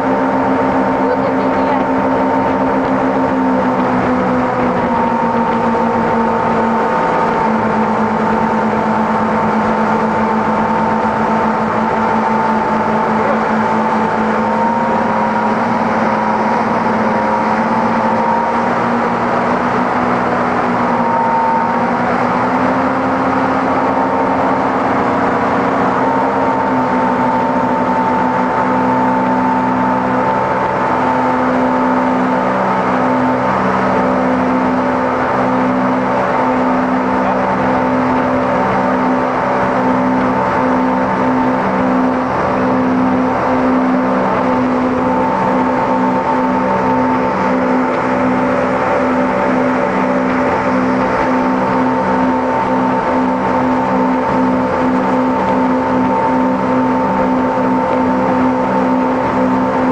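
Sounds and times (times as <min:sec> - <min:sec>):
motorboat engine humming: 0:00.0 - 0:59.9
rushing water: 0:00.0 - 0:59.9.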